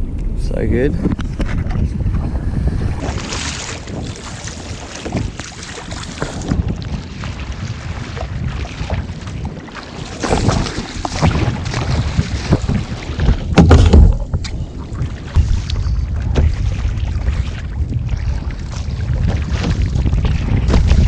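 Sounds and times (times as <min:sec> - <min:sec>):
wind buffeting microphone: 0:00.0 - 0:21.0
sea water splashing around hull: 0:00.8 - 0:21.0.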